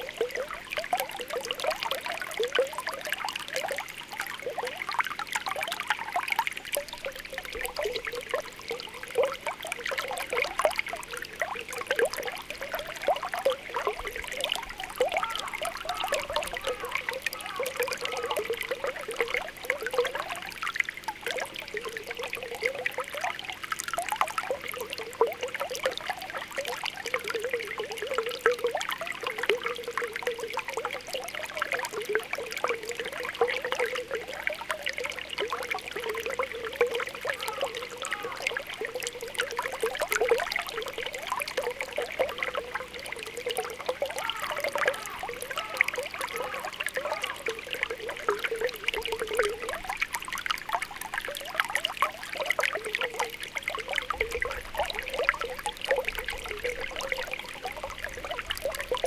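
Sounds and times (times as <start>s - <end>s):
spring water bubbling: 0.0s - 59.0s
water trickling: 0.0s - 59.0s.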